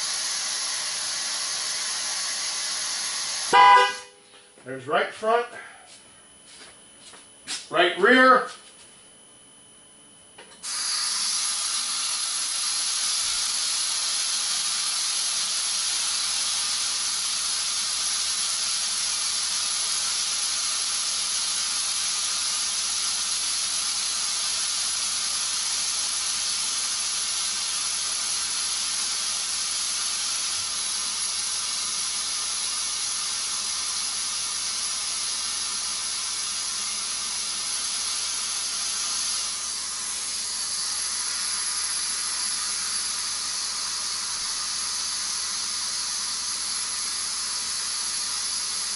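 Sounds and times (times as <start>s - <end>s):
air hissing out of tire: 0.0s - 4.2s, 10.6s - 48.9s.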